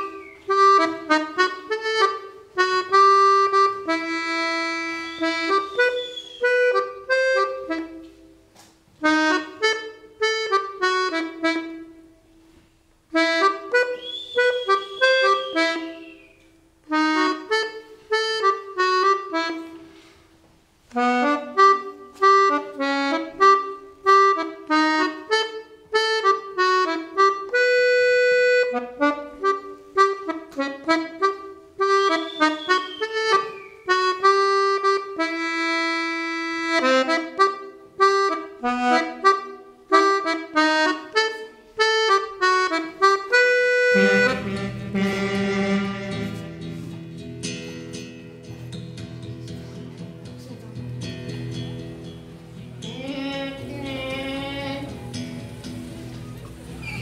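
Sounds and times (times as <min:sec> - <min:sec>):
accordion tune: 0:00.0 - 0:57.0.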